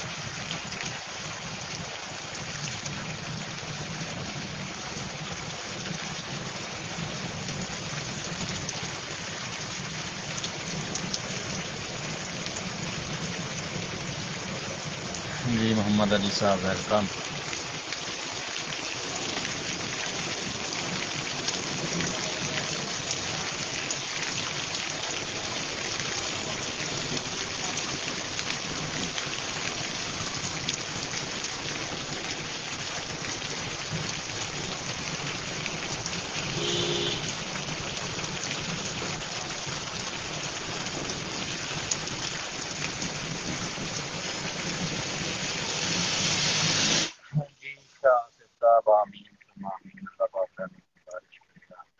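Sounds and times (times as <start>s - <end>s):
heavy rain on paved road: 0.0s - 49.0s.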